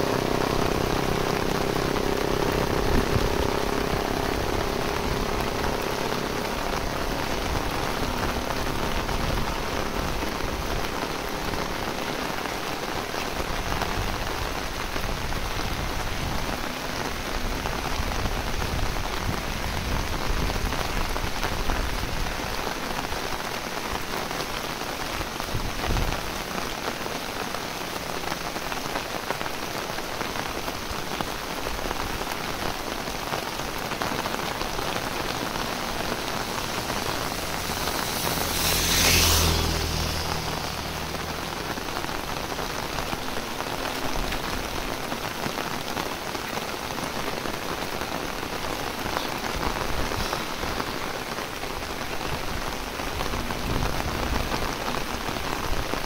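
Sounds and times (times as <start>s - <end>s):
heavy rain on leaves: 0.0s - 56.0s.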